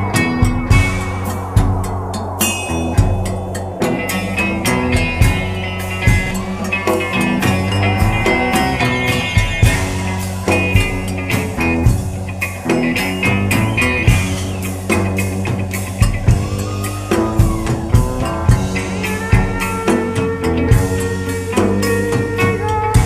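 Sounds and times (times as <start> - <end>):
blues-rock band music: 0.0 - 23.0.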